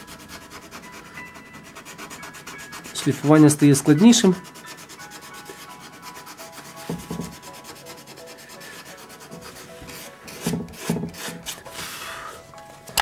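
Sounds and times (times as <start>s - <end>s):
sandpaper scratching on wood: 0.0s - 12.1s.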